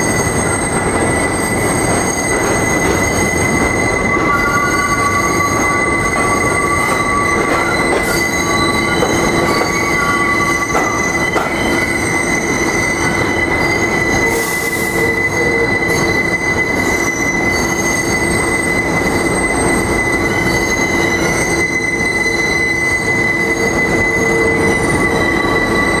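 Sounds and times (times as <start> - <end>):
rumble of train wheels: 0.0 - 26.0
train wheels squealing on rails: 0.0 - 26.0.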